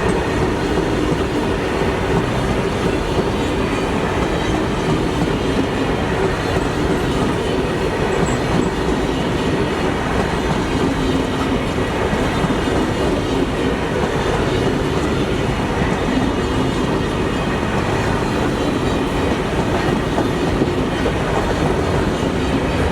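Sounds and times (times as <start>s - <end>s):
train rumbling on track: 0.0s - 22.9s.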